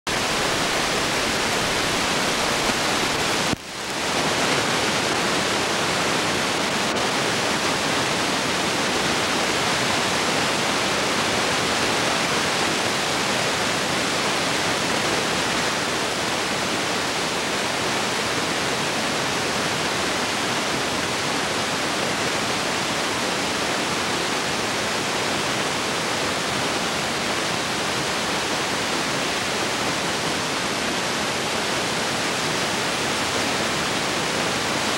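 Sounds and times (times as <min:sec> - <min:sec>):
recording noise hiss: 0:00.1 - 0:34.9.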